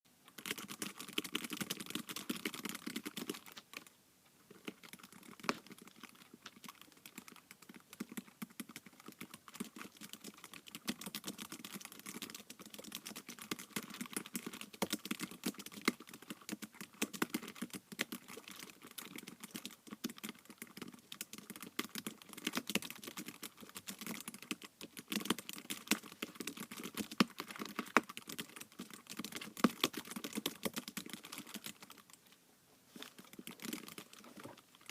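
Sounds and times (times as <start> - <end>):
fast typing on tablet keyboard: 0.3 - 3.9, 4.5 - 32.3, 33.0 - 34.9.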